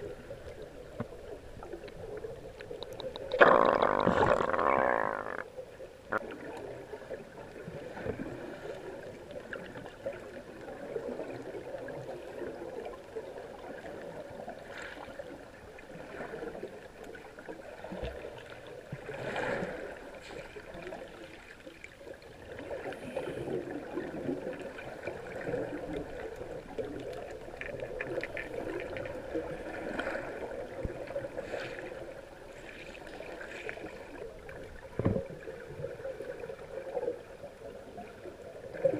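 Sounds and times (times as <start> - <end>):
muffled underwater rush and gurgle: 0.0 - 38.9.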